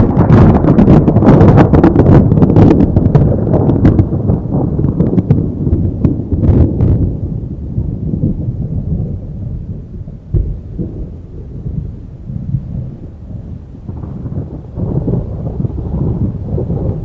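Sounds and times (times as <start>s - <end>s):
heavy rain: 0.0s - 17.0s
rolling thunder: 0.0s - 17.0s
sharp thunder crackles: 0.0s - 17.0s.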